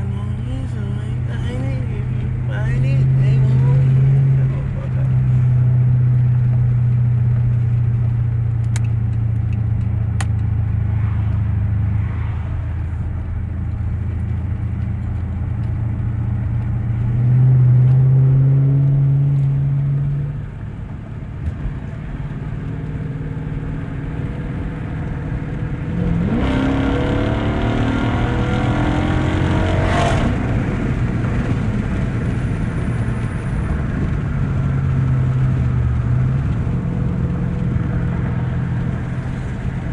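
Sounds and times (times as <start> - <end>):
car engine and exhaust droning: 0.0 - 39.9
car engine revving: 0.0 - 39.9.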